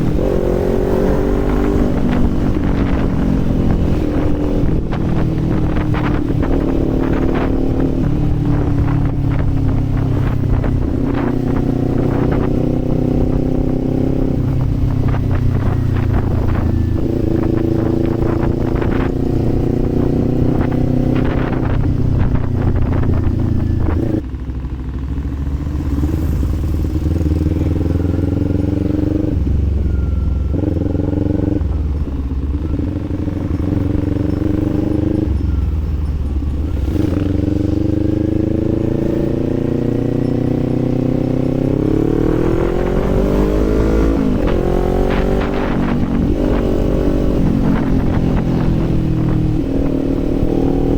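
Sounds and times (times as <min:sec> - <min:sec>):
motorcycle engine and exhaust: 0:00.0 - 0:50.9.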